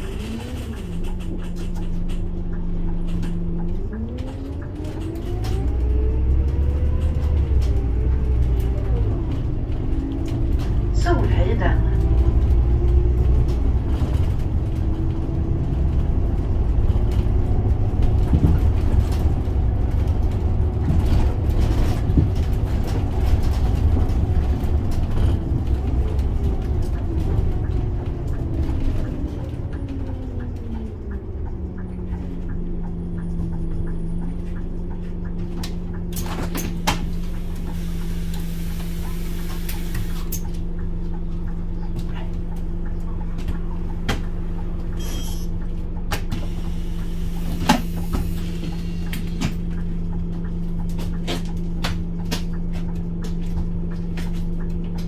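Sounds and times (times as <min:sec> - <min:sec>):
bus engine rumbling and idling: 0:00.0 - 0:55.0.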